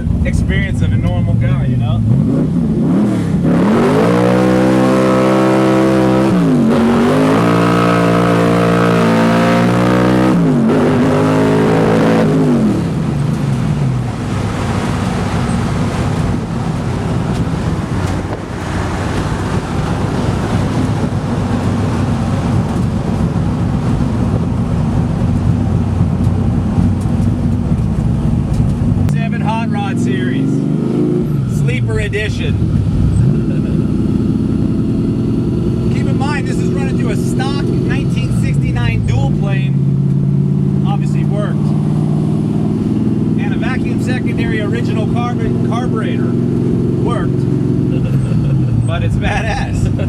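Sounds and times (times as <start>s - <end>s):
car engine accelerating hard: 0.0s - 50.0s.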